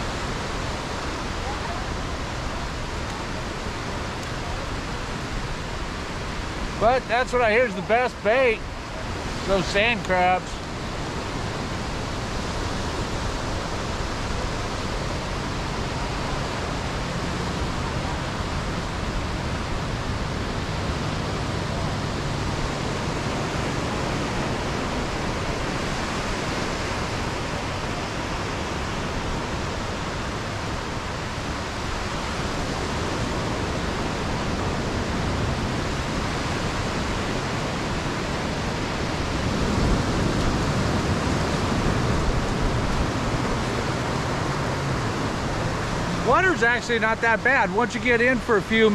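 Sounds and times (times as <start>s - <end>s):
ocean surf breaking on beach: 0.0s - 48.9s.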